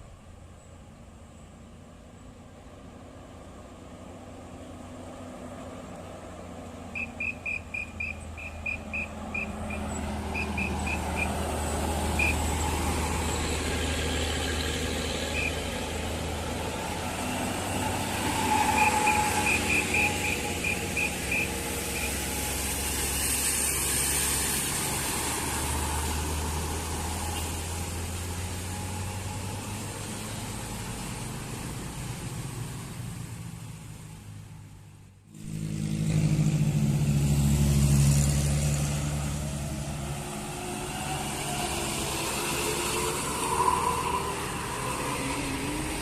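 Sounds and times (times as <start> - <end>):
diesel bus engine labouring: 2.6 - 46.0.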